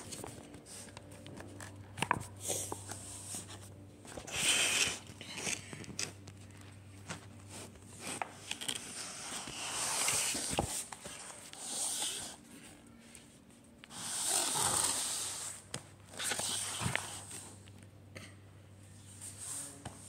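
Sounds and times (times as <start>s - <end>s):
rustling and handling noise: 0.0s - 17.9s.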